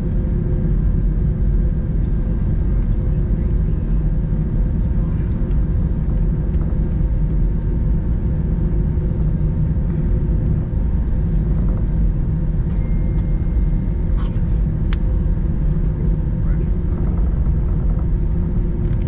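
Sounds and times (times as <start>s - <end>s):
aircraft engines idling: 0.0s - 19.0s
low cabin rumble: 0.0s - 19.0s.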